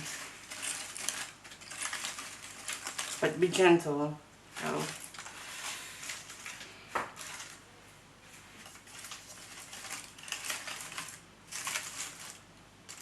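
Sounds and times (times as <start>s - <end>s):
rustling of wire-stem flowers: 0.0s - 13.0s.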